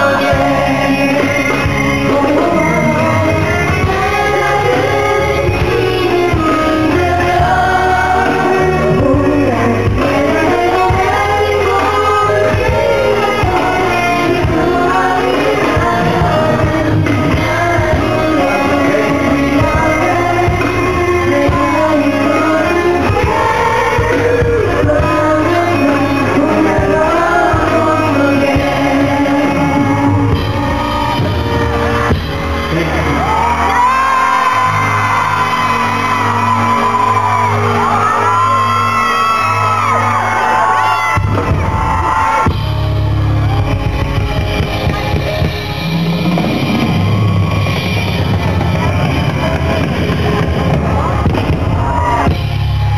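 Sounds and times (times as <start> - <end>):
person singing: 0.0 - 47.2
loud amplified pop music: 0.0 - 52.9.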